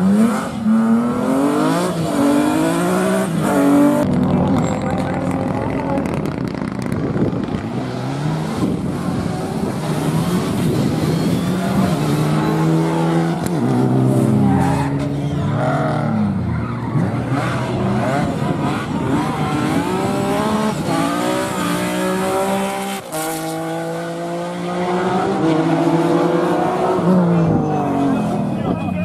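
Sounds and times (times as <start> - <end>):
rally car engine revving: 0.0 - 28.8.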